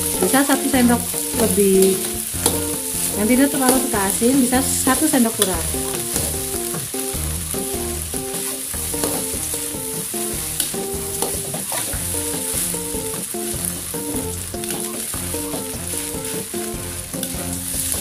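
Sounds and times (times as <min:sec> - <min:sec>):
simple background melody: 0:00.0 - 0:18.0
spatula scraping a wok: 0:00.0 - 0:18.0
steady sizzle: 0:00.0 - 0:18.0.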